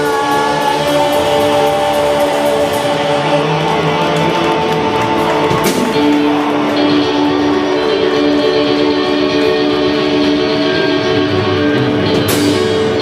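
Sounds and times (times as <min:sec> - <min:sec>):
electric guitar sustained notes: 0:00.0 - 0:13.0
rock band playing: 0:00.0 - 0:13.0.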